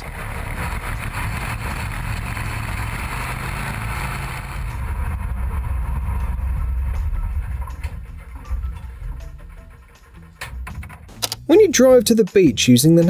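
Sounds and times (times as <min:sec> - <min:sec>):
rushing noise: 0:00.0 - 0:10.5
race car engine rumble: 0:00.0 - 0:11.8.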